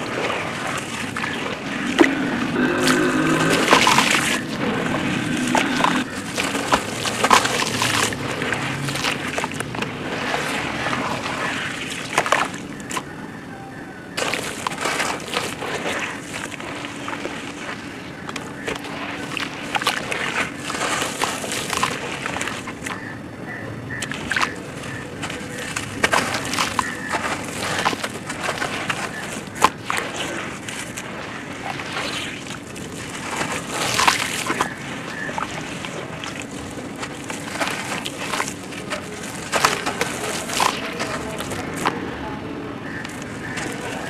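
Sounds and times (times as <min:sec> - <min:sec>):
gritty crackles of sand: 0:00.0 - 0:44.0
muddy water sloshing and splashing: 0:00.0 - 0:44.0.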